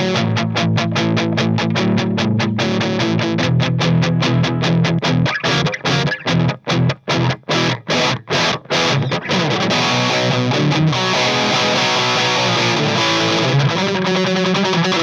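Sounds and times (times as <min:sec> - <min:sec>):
electric guitar with delay and chorus: 0:00.0 - 0:15.0.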